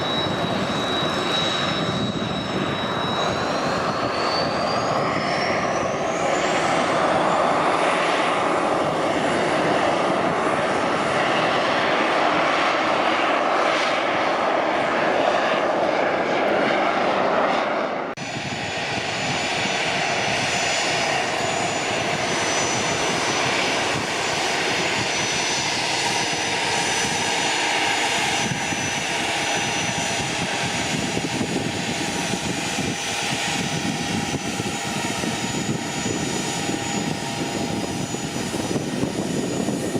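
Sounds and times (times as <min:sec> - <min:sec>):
jet engines running loud: 0:00.0 - 0:39.9
jet turbofans whining: 0:00.0 - 0:39.9.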